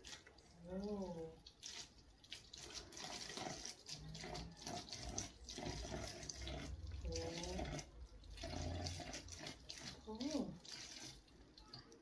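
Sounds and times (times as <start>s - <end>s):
water pouring into a bottle: 0.0s - 12.0s.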